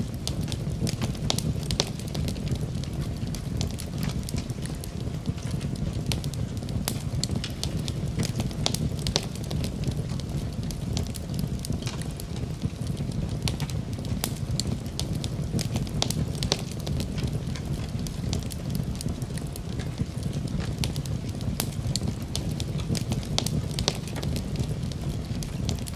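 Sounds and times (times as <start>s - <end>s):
fire rumbling: 0.0s - 25.9s
wood crackling and popping: 0.0s - 25.9s.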